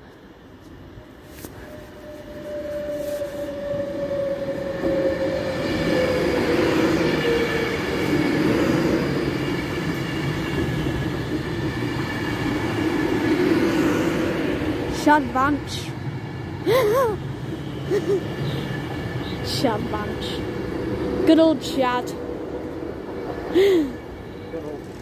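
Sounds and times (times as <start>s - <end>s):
electric train whine: 0.0s - 25.0s
train wheel rumbling: 0.2s - 25.0s.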